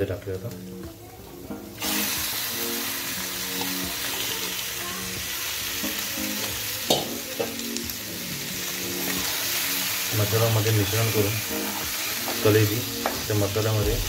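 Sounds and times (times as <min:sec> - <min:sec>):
liver sizzling in hot oil: 0:00.0 - 0:14.0.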